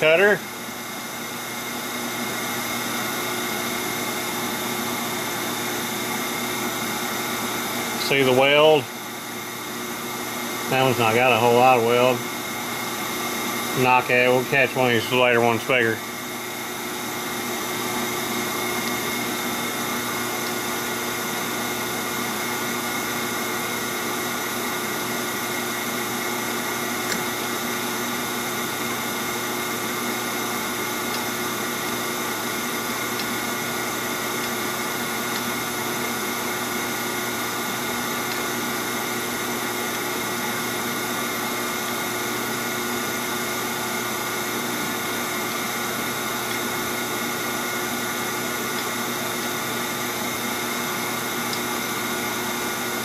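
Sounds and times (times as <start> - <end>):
metal lathe humming: 0.2 - 53.0.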